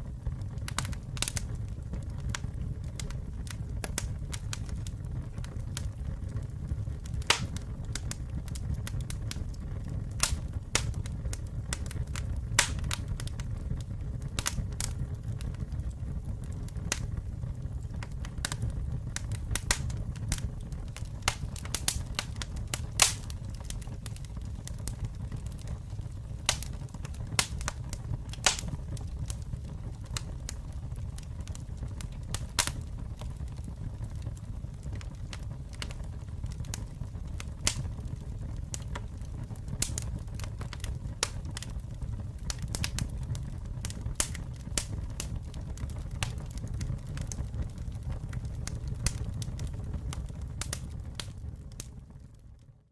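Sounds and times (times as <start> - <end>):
burning wood crackling and popping: 0.0 - 52.8
low rumble of flame: 0.0 - 52.9.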